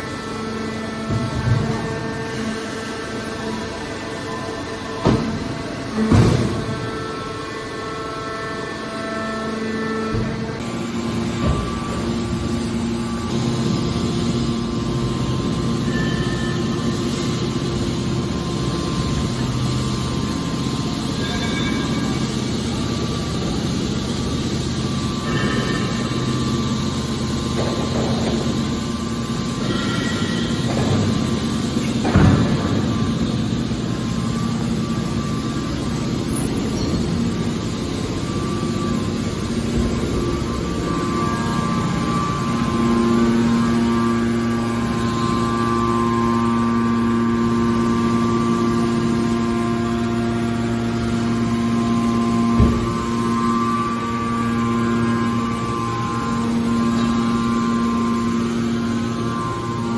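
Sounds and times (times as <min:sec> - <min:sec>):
baler machine hum and rumble: 0:00.0 - 0:59.9
high machine squeals: 0:01.9 - 0:59.9.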